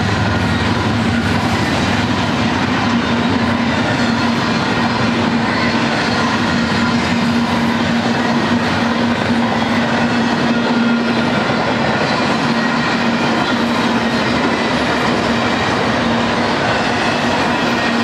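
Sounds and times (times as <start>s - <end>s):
freight train wheels rolling: 0.0s - 18.0s.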